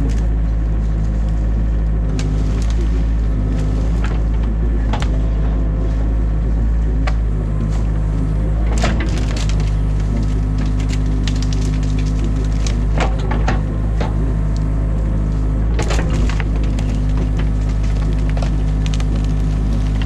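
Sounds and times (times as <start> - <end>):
branches cracking and snapping: 0.0 - 6.2, 7.0 - 20.0
excavator engine running: 0.0 - 20.0.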